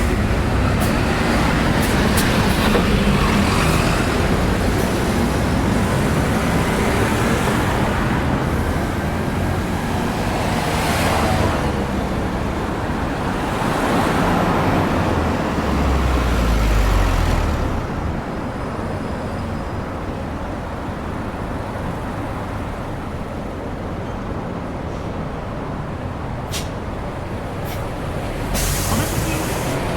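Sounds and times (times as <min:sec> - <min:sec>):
heavy low engine rumble: 0:00.0 - 0:10.7, 0:11.4 - 0:29.9
road traffic passing: 0:00.0 - 0:29.9.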